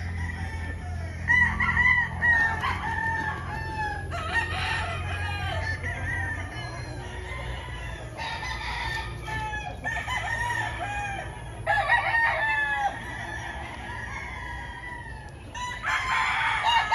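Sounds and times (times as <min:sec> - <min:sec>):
roosters crowing: 0:00.0 - 0:16.9.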